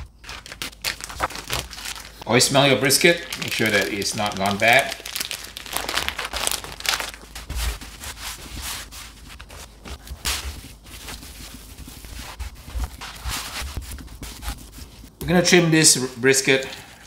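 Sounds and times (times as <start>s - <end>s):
plastic bag rustling: 0.0s - 15.2s.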